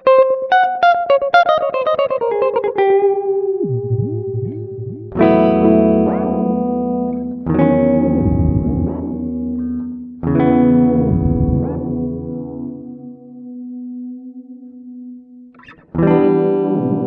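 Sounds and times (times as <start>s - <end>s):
electric guitar with echo: 0.0s - 17.0s
strummed guitar chords: 0.0s - 17.0s.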